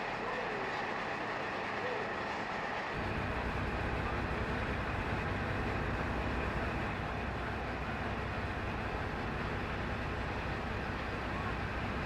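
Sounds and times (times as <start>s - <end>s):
diesel railcar rumble: 0.0s - 12.0s.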